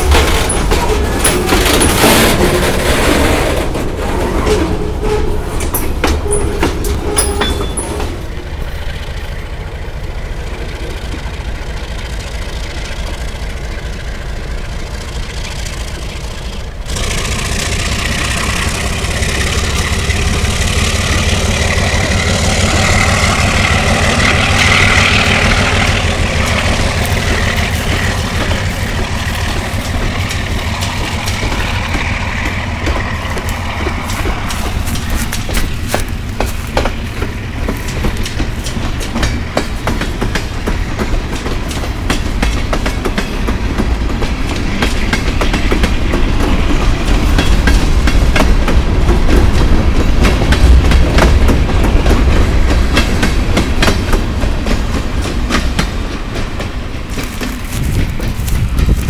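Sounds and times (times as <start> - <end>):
diesel locomotive engine throbbing: 0.0 - 59.0
train wheels clicking over rail joints: 0.0 - 59.0.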